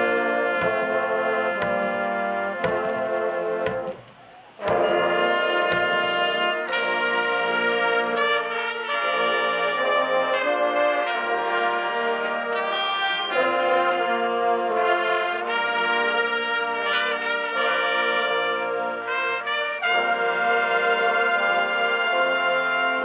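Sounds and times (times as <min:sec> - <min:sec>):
marching band brass chords: 0:00.0 - 0:23.0.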